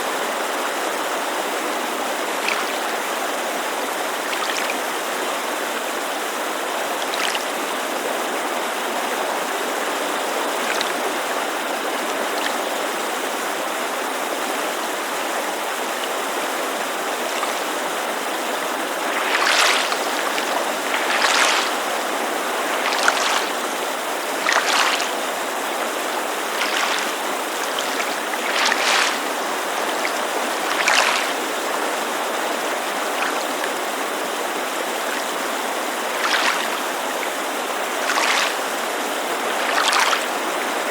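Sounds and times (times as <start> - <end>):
creek rushing: 0.0 - 40.9
waves lapping against shore: 0.0 - 40.9.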